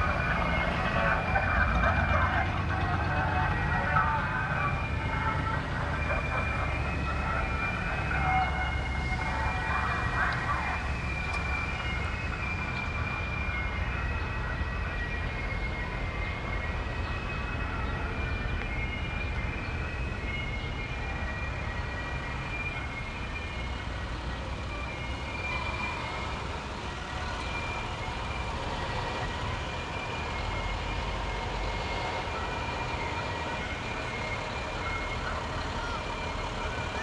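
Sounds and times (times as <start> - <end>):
fire truck engines rumbling: 0.0 - 37.0.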